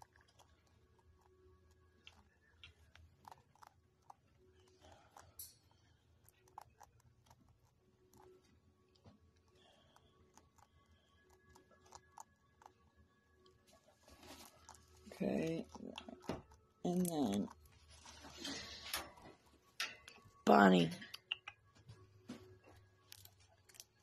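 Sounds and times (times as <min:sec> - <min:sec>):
chinchilla nibbling: 0:00.0 - 0:19.2, 0:22.8 - 0:24.0.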